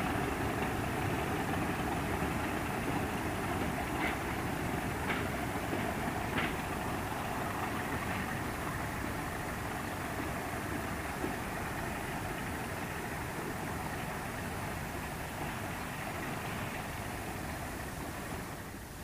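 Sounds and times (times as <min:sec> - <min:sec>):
diesel locomotive engine running: 0:00.0 - 0:19.0.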